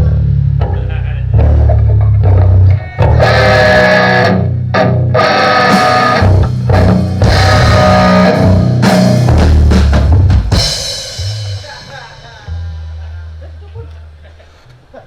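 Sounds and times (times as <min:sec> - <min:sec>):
electric guitar chords: 0:00.0 - 0:13.7
bass guitar: 0:00.0 - 0:14.2.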